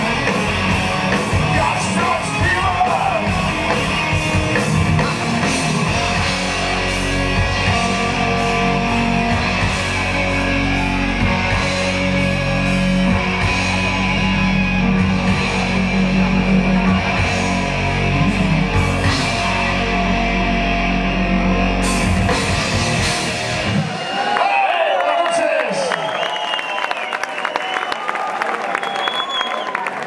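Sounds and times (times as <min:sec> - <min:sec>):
bass guitar: 0:00.0 - 0:24.3
distorted electric guitars: 0:00.0 - 0:24.4
drums: 0:00.0 - 0:24.8.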